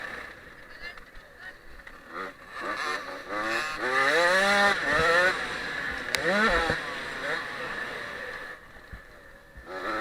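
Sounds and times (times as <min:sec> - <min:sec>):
motocross bike engine accelerating: 0:01.8 - 0:10.0.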